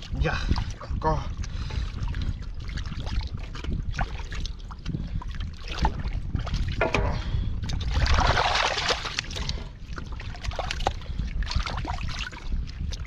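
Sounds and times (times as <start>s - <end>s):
splashing in muddy water: 0.0s - 13.0s
fish thrashing in water: 2.0s - 13.0s.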